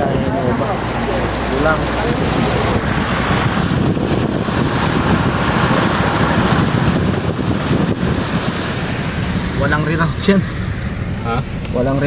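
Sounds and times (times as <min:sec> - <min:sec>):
vehicle rushing through floodwater: 0:00.0 - 0:12.0
wind noise on microphone: 0:00.0 - 0:12.0.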